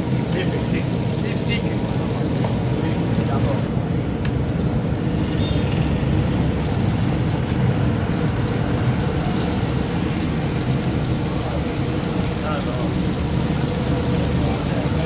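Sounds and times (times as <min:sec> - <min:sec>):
oil sizzling and bubbling: 0:00.0 - 0:15.0.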